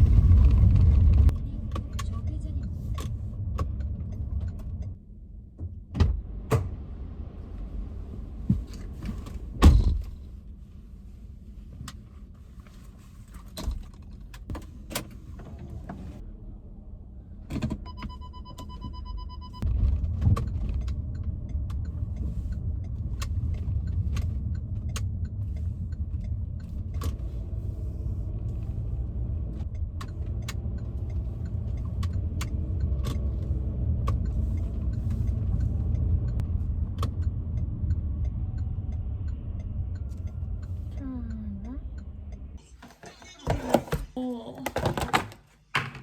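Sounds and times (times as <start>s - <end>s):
road and engine rumble: 0.0s - 45.4s.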